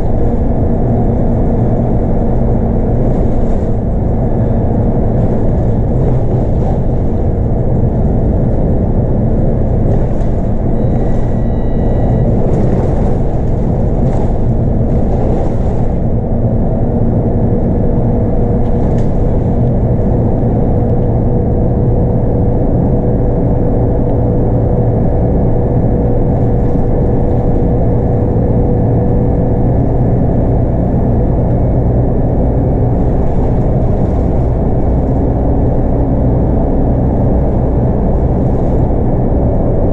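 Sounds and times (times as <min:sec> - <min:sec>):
bus engine rumbling: 0:00.0 - 0:39.9
steady whine: 0:00.0 - 0:39.9.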